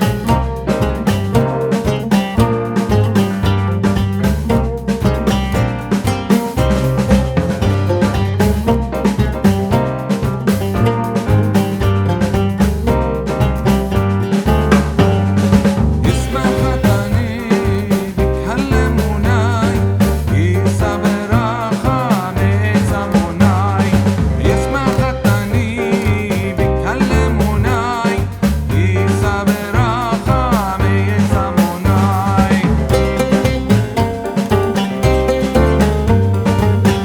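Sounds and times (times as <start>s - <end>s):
upbeat band music: 0.0s - 37.0s.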